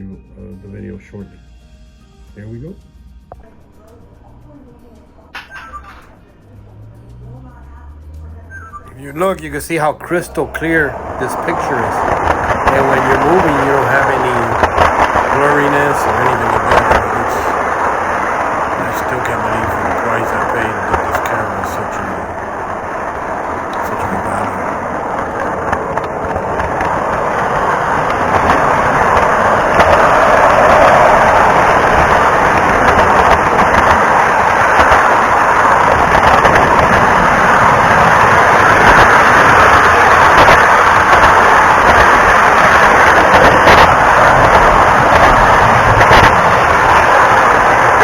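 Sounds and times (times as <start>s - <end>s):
model train rolling rumble: 9.5s - 48.0s.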